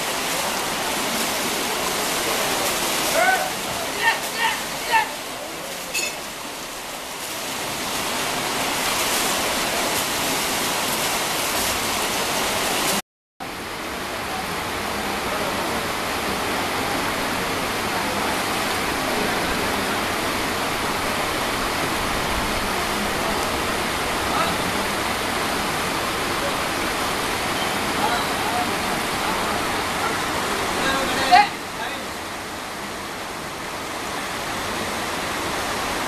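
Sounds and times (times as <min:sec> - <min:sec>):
river water flowing over rocks: 0:00.0 - 0:36.0.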